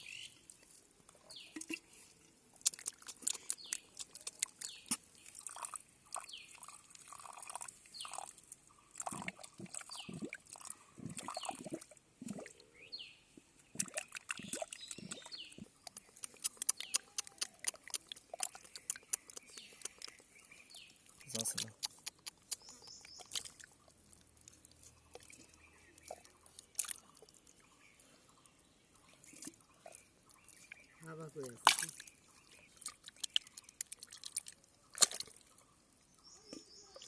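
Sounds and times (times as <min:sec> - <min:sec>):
mud and water splashing: 0:00.0 - 0:37.0.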